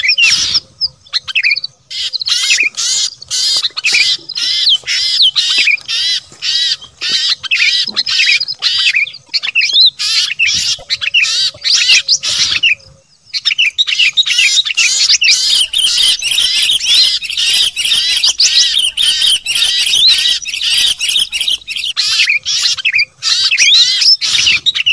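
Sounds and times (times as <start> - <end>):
songbirds chattering and chirping: 0.0 - 24.9.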